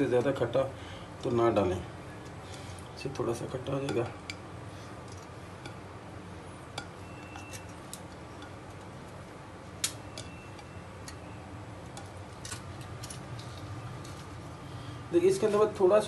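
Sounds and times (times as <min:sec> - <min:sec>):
low room noise: 0:00.0 - 0:16.0.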